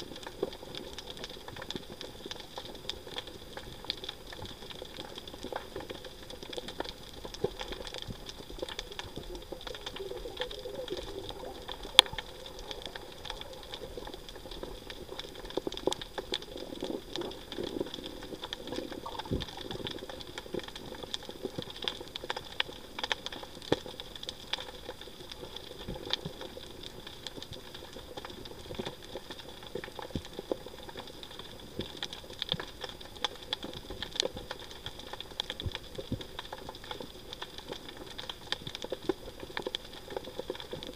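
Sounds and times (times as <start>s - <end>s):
underwater crackle of clicks: 0.0s - 40.9s.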